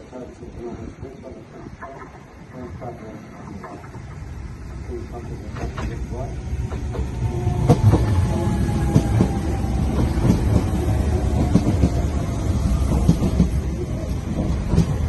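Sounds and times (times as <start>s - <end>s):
rail joints clacking: 0.0s - 15.0s
train wheels rumbling on rails: 0.0s - 15.0s.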